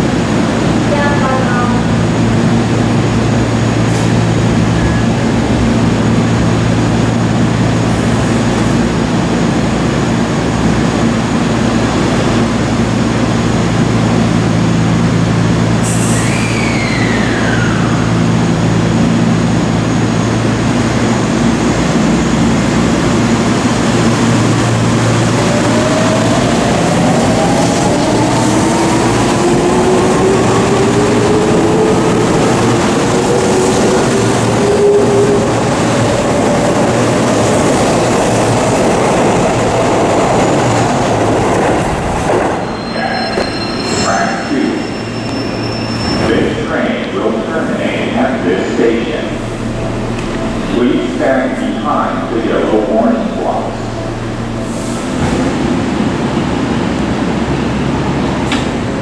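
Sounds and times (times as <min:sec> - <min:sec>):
electric train humming: 0:00.0 - 0:59.0.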